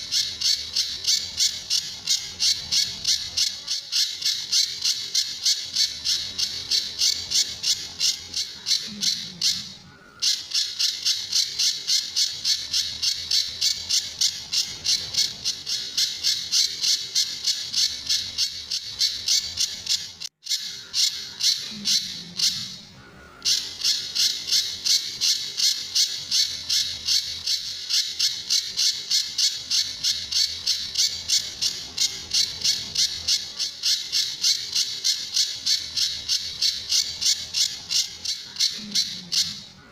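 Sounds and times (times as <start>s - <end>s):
songbird calling rapid high notes: 0.0s - 39.8s.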